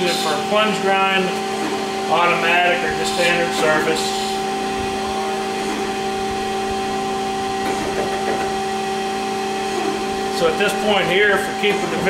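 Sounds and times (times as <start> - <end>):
grinder machine hum: 0.0 - 12.0.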